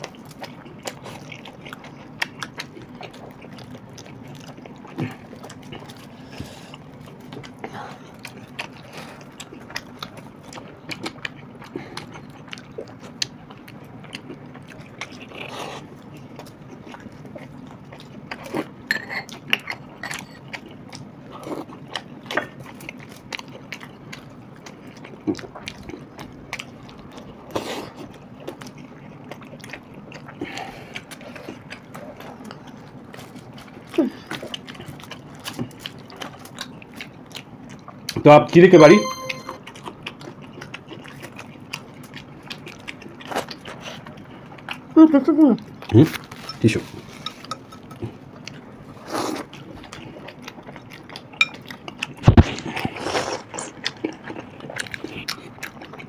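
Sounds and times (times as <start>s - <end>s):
chewing and wet mouth clicks: 0.0s - 38.2s, 39.6s - 45.0s, 45.6s - 56.0s.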